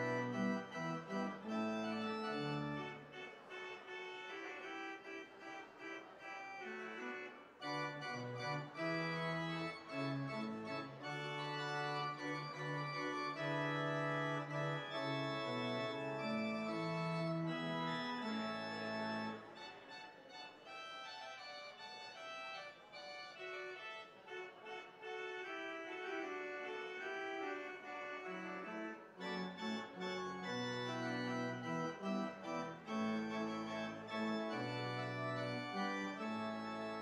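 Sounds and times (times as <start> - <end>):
organ playing chords: 0.0 - 37.0.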